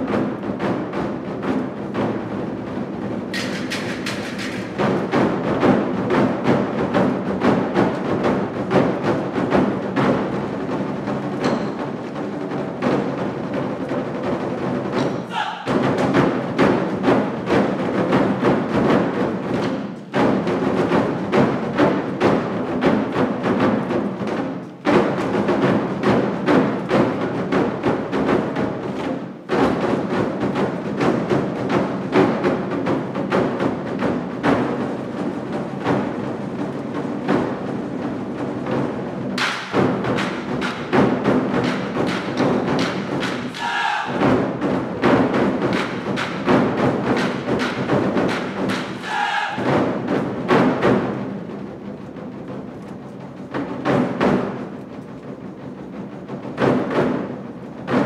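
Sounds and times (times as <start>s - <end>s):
drum ensemble playing: 0.0s - 58.0s.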